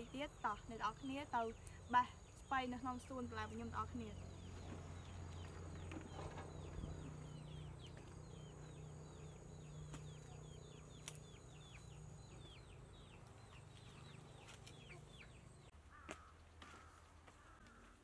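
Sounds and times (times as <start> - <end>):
birds chirping rapidly: 0.0 - 16.1.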